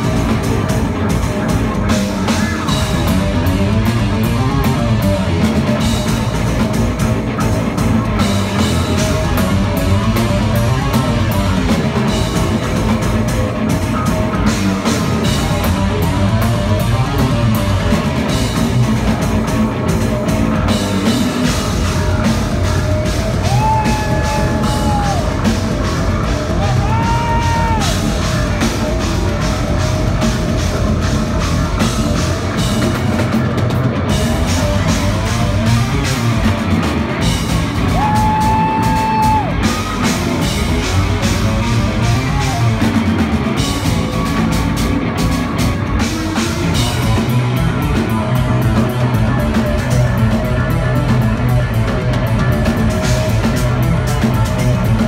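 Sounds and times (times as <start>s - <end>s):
bending lead guitar notes: 0.0s - 55.0s
drum kit: 0.0s - 55.0s
electric bass: 0.0s - 55.0s
metal band playing live: 0.0s - 55.0s.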